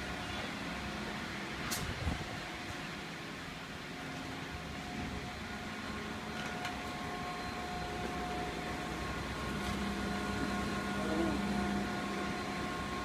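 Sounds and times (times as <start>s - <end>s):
mechanical hum with whine: 0.0s - 13.0s.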